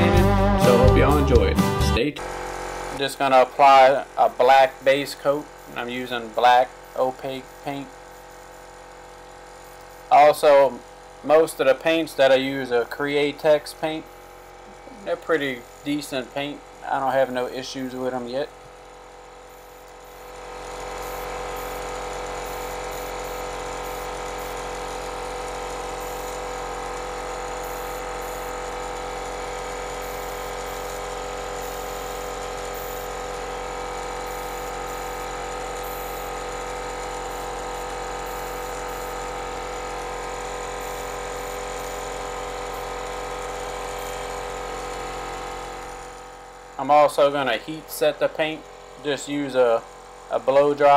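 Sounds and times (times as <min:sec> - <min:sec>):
air compressor humming: 0:00.0 - 0:50.9.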